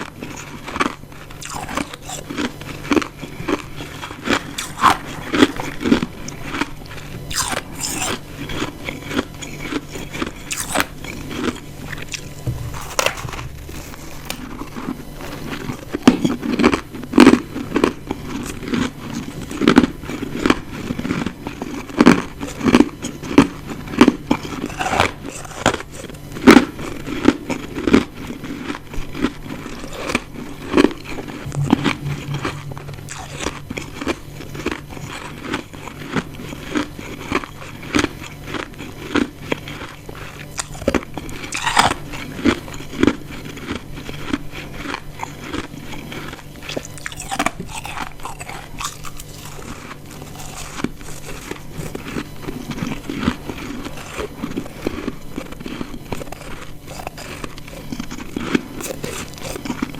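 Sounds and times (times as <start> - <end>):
chewing ice crunches: 0.0 - 31.4, 33.1 - 59.9.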